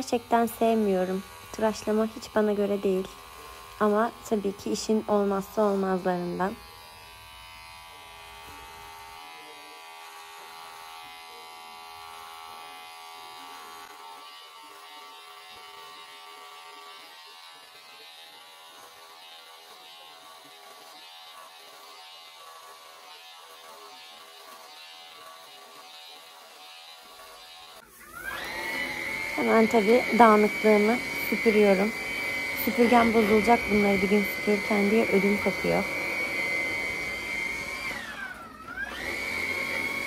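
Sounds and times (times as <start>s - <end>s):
electric carpet trimmer buzzing: 0.0s - 40.0s.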